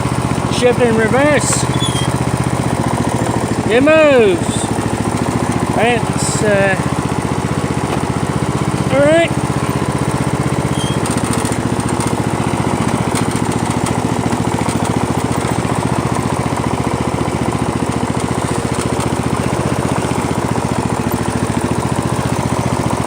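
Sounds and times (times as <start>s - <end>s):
lawn tractor engine running: 0.0s - 23.0s.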